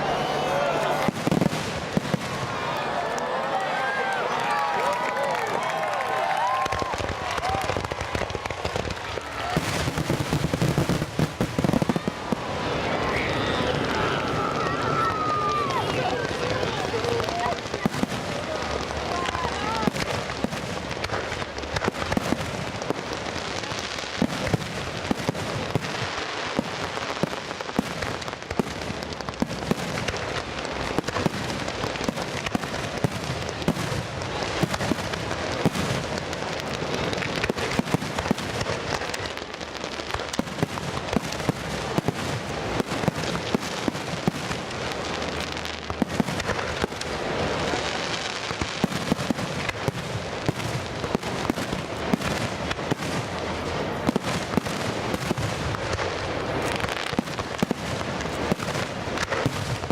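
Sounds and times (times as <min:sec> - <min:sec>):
fireworks crackling and banging: 0:00.0 - 0:59.9.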